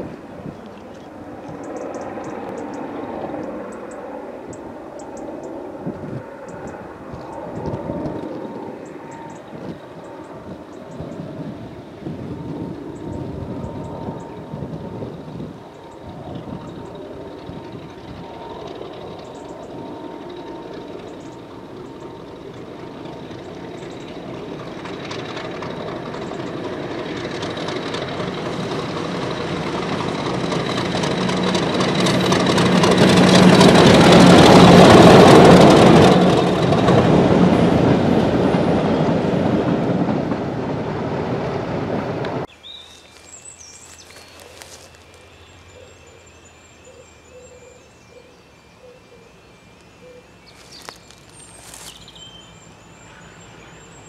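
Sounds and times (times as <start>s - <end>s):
diesel locomotives passing: 0.0s - 54.0s.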